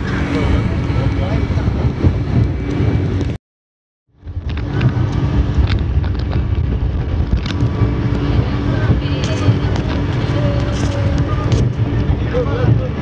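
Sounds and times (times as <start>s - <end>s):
rushing wind and water: 0.0s - 3.4s, 4.1s - 13.0s
speedboat engine drone: 0.0s - 3.4s, 4.1s - 13.0s.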